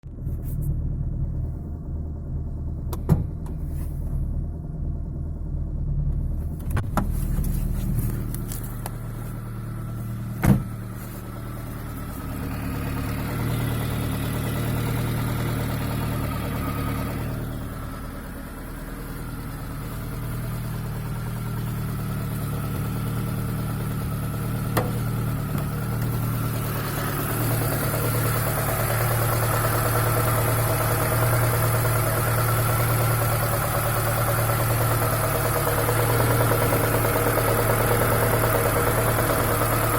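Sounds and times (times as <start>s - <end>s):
petrol engine running with knock: 6.1s - 39.9s.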